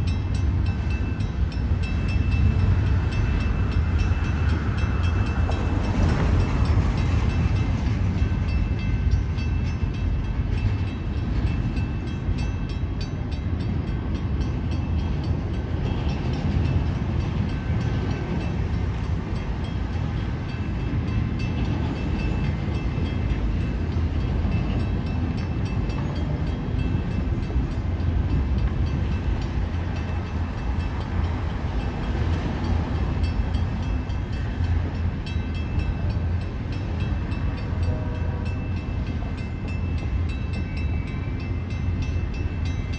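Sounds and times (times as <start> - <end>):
train cars rumbling: 0.0 - 42.9.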